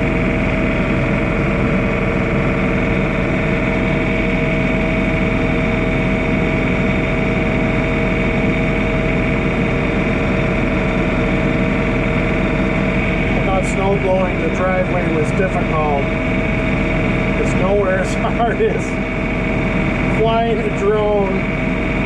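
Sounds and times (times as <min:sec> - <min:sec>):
motor running steadily: 0:00.0 - 0:22.0.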